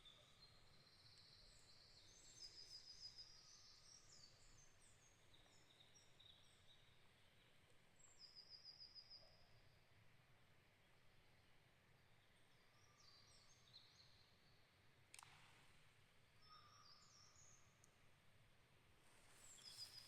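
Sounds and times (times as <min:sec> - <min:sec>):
faint songbird chirps: 0:00.0 - 0:15.3, 0:16.2 - 0:20.0.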